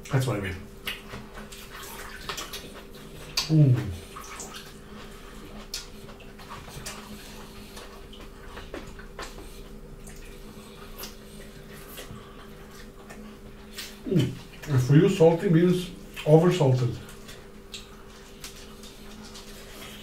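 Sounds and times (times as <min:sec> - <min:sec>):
faint steady hum: 0:00.0 - 0:20.0
wet chewing and lip-smacking: 0:00.0 - 0:20.0.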